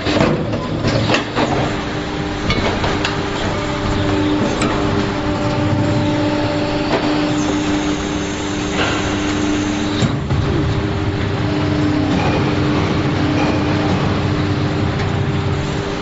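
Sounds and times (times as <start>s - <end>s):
machine hum with held tones: 0.9s - 16.0s.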